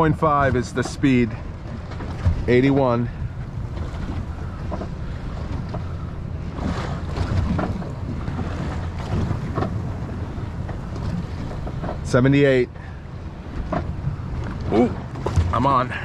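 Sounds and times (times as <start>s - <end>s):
water lapping against boat hull: 0.0s - 16.0s
wind buffeting microphone: 0.0s - 16.0s.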